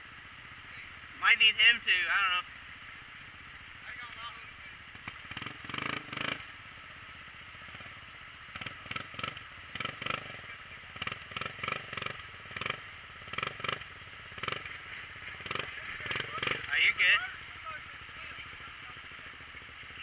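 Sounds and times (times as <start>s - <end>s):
off-road vehicle engine idling: 0.0s - 20.0s.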